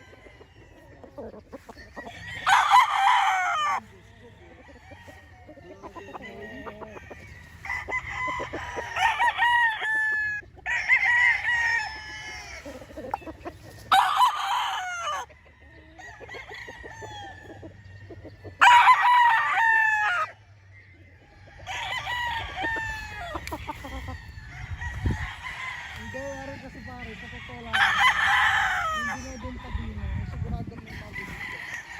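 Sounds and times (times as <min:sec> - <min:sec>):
chickens clucking: 0:00.0 - 0:31.9
roosters crowing: 0:00.0 - 0:31.9.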